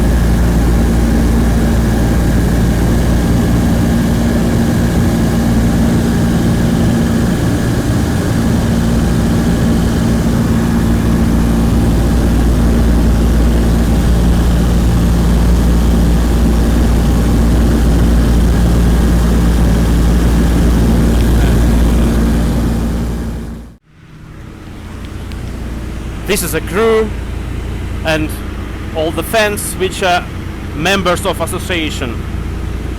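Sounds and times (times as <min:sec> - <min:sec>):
propeller engines droning: 0:00.0 - 0:32.9.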